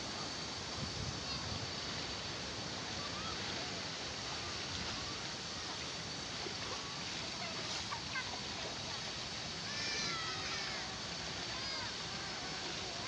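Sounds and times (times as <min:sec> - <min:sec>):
stream water cascading over rocks: 0:00.0 - 0:13.0.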